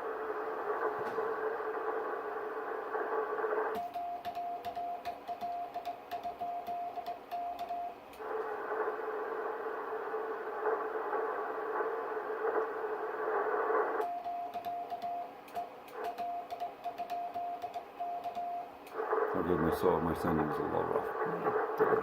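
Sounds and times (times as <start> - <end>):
shortwave receiver hiss: 0.0 - 22.0.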